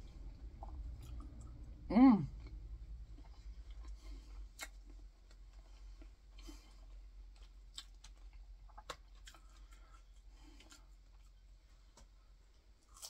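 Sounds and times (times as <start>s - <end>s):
person chewing with mouth clicks: 0.4s - 11.4s.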